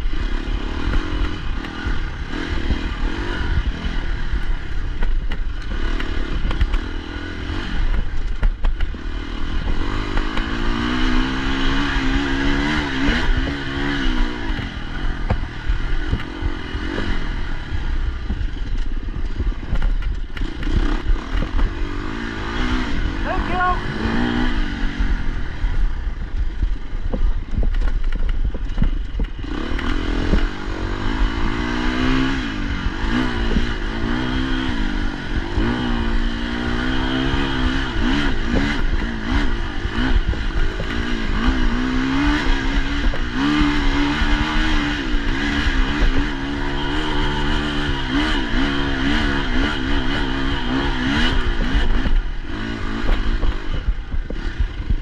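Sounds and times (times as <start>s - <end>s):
dirt bike engine revving: 0.0s - 55.0s
bike knocks and rattles: 0.6s - 11.0s, 11.8s - 22.8s, 26.2s - 32.4s, 35.4s - 55.0s.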